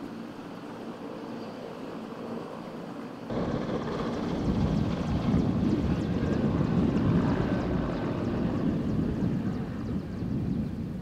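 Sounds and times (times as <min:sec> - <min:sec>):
helicopter flying overhead: 0:00.0 - 0:11.0.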